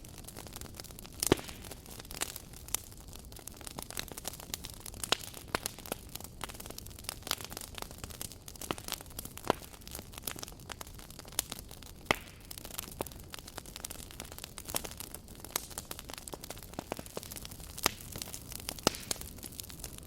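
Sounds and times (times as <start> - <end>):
campfire crackling and popping: 0.0 - 20.0
low steady hiss: 0.0 - 20.0.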